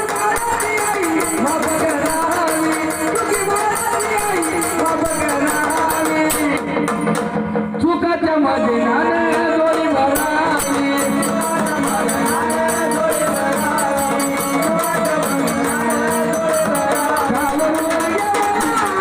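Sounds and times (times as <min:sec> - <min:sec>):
metallic jingling percussion: 0:00.0 - 0:07.4, 0:09.8 - 0:19.0.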